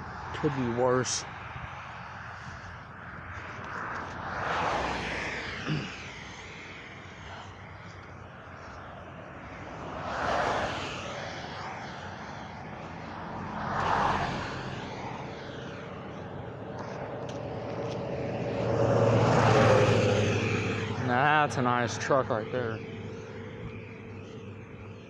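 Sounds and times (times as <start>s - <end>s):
traffic passing: 0.0s - 25.0s
vehicle engine drone: 0.0s - 25.0s.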